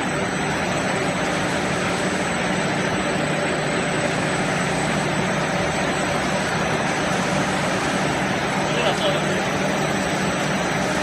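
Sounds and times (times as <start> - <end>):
machinery running with low hum: 0.0 - 11.0.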